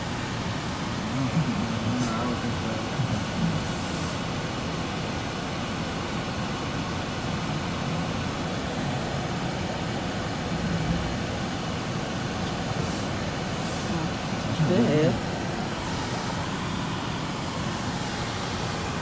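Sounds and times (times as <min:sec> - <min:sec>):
car tyres and engine rumble: 0:00.0 - 0:19.0.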